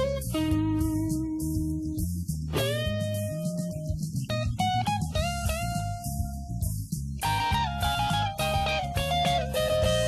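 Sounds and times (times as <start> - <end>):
guitar background music: 0.0 - 10.0.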